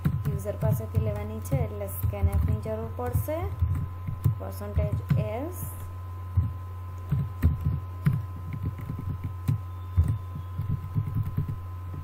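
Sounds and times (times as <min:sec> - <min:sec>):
computer keyboard typing: 0:00.0 - 0:05.3, 0:07.1 - 0:12.0
low electrical hum: 0:00.0 - 0:12.0.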